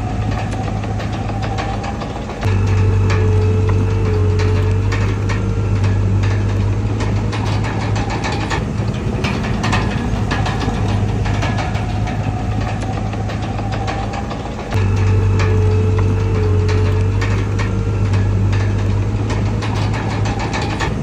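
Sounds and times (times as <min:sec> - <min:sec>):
bulldozer diesel engine running: 0:00.0 - 0:21.0
metallic clicks and rattles: 0:00.0 - 0:21.0.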